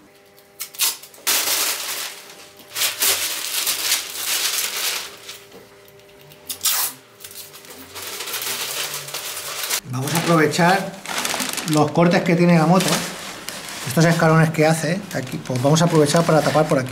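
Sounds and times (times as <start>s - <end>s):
masking paper rustling and crackling: 0.8s - 5.5s, 7.2s - 16.9s.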